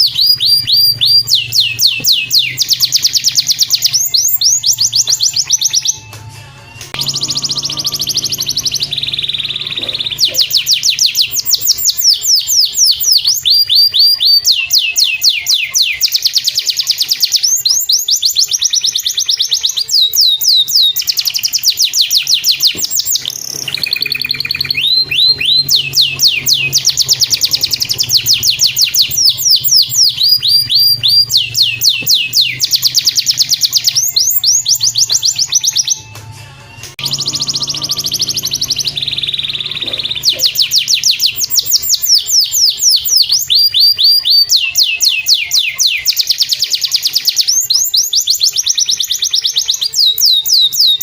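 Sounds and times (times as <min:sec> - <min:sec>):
canary singing trills: 0:00.0 - 0:51.0.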